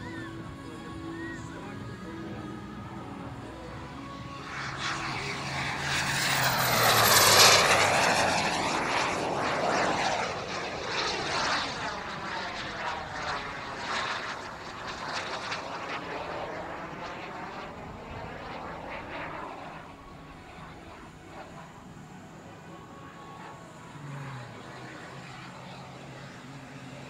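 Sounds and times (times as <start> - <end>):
model jet turbine fly-past: 0.0 - 27.0.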